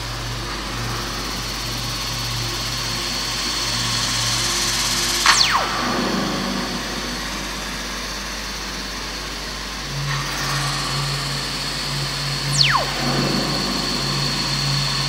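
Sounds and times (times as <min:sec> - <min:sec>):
falling motor whine: 0:00.0 - 0:15.0.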